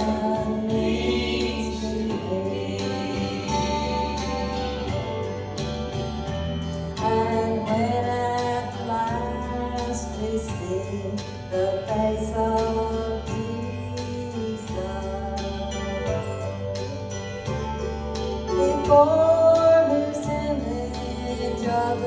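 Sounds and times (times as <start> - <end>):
woman singing gospel: 0.0 - 4.8, 7.0 - 16.5, 18.5 - 22.0
instrumental accompaniment with bass: 0.0 - 22.0.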